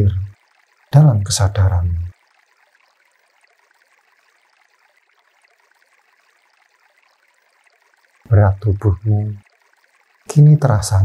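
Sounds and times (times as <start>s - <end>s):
running water hiss: 0.0s - 11.0s.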